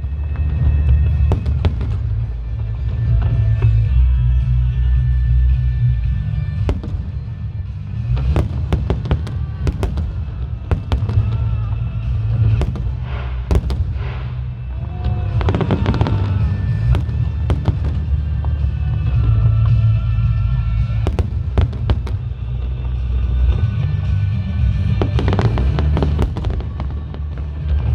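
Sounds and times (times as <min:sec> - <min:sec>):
fireworks bursting: 0:01.0 - 0:03.6, 0:06.6 - 0:23.6, 0:24.6 - 0:27.9.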